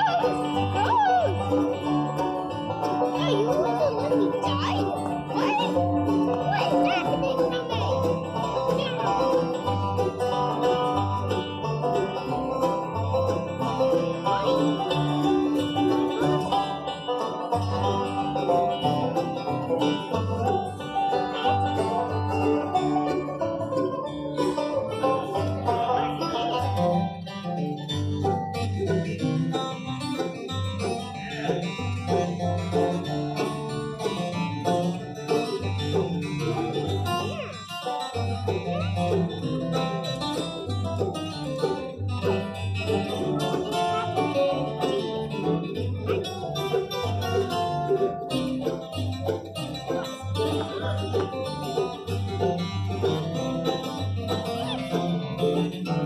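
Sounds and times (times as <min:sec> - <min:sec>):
acoustic guitars picking: 0:00.0 - 0:56.0
banjo picking: 0:00.0 - 0:56.0
upright bass: 0:00.0 - 0:56.0.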